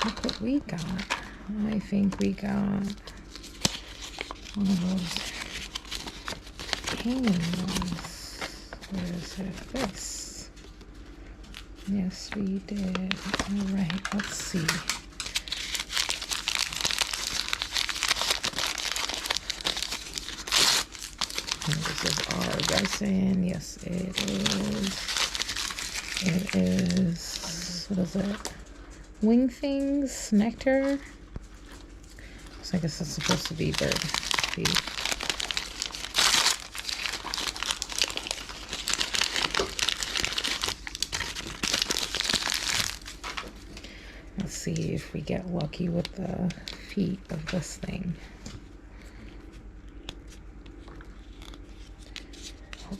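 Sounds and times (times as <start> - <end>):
plastic packaging crinkling: 0.0 - 29.0, 30.6 - 43.9, 50.1 - 52.9.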